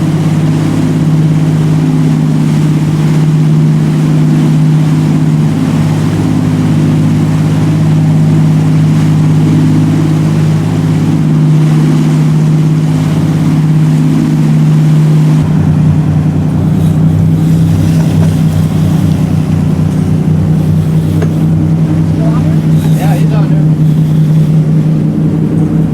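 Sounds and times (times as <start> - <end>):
motorboat engine droning: 0.0 - 25.9.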